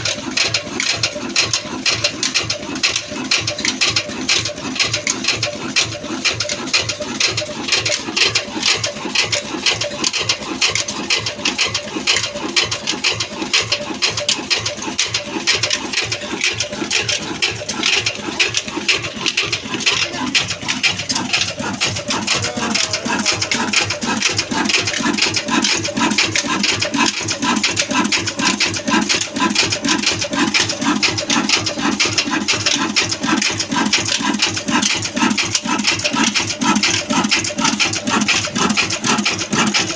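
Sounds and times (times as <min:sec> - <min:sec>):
diesel engine clattering: 0:00.0 - 0:39.9.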